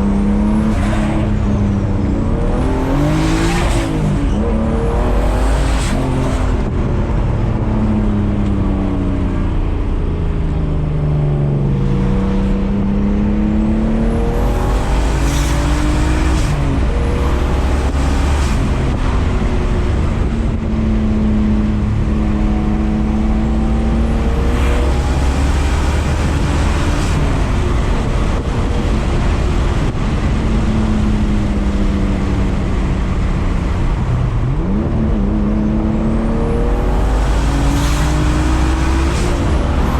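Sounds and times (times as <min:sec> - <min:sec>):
turbocharged car engine accelerating: 0:00.0 - 0:39.9.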